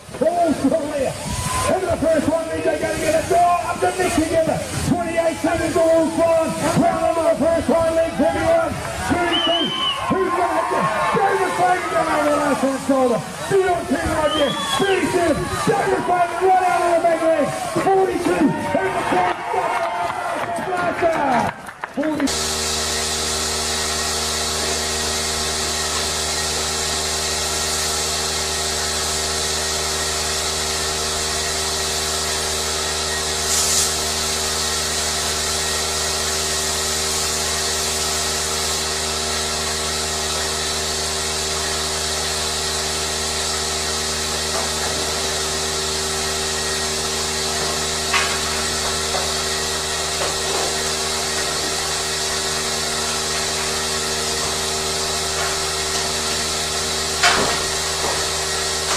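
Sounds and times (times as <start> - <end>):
machine humming with hiss: 0.0 - 20.4, 22.0 - 58.9.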